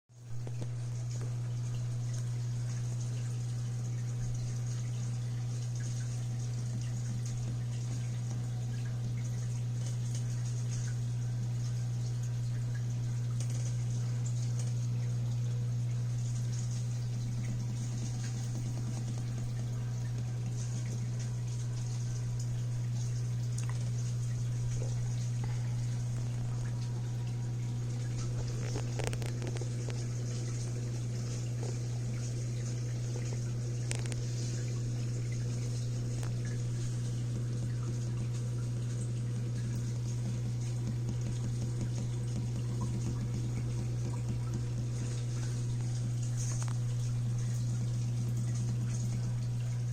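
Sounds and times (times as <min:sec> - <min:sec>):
low pump hum: 0:00.1 - 0:49.9
aquarium water bubbling: 0:00.2 - 0:49.9.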